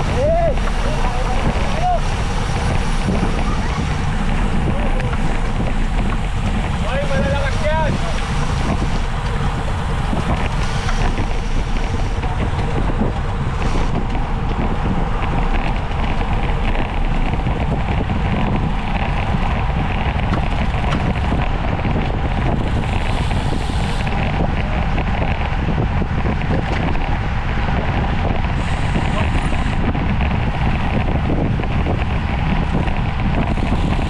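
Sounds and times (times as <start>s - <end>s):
wind rushing over microphone: 0.0s - 34.0s.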